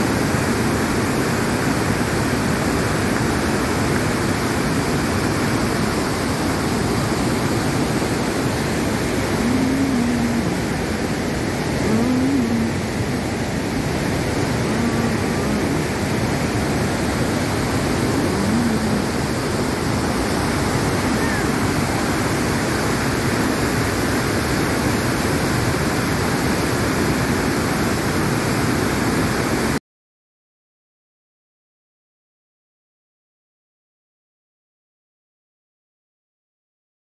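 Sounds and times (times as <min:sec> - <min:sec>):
waterfall rushing: 0:00.0 - 0:29.8.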